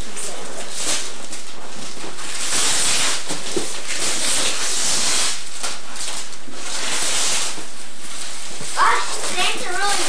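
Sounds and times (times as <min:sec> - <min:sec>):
wrapping paper rustling: 0:00.0 - 0:10.0.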